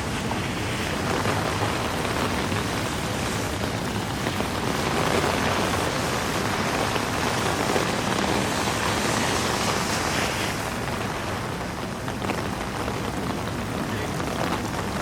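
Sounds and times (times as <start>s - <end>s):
heavy rain on street: 0.0s - 15.0s
traffic on wet road: 0.0s - 15.0s.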